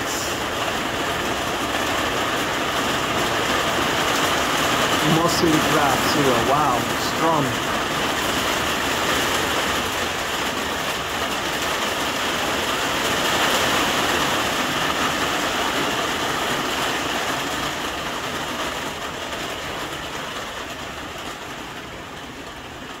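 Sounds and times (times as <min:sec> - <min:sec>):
rain on a greenhouse: 0:00.0 - 0:23.0.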